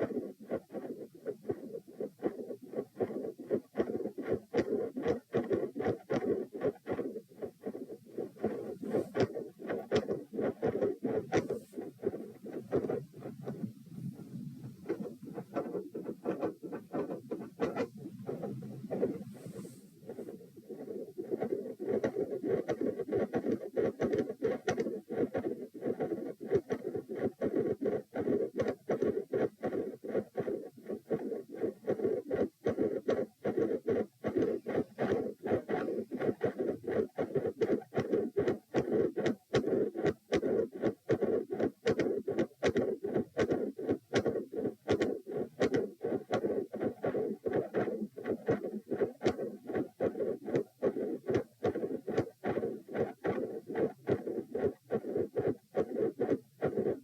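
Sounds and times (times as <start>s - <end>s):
heart murmur: 0.0s - 57.0s
heartbeat: 0.0s - 57.0s.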